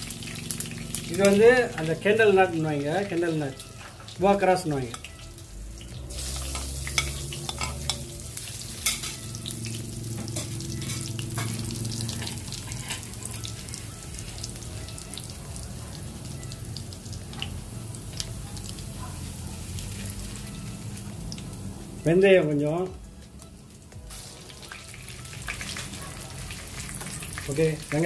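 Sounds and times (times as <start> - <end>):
spices sizzling in hot oil: 0.0 - 28.0.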